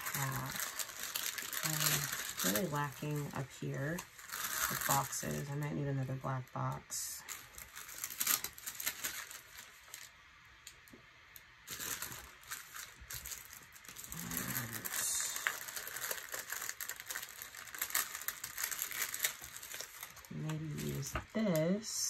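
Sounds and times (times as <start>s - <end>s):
paper crinkling and rustling: 0.0s - 10.2s, 11.6s - 21.8s.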